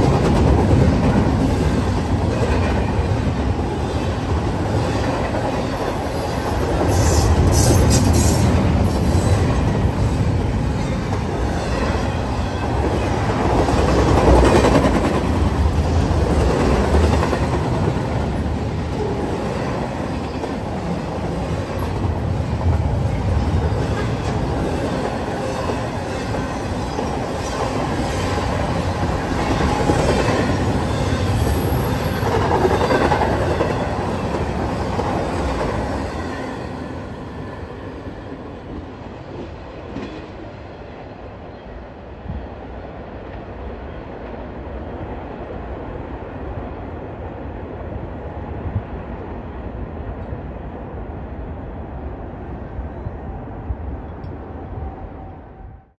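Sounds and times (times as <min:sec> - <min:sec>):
rumble of train wheels on rail: 0:00.0 - 0:55.9.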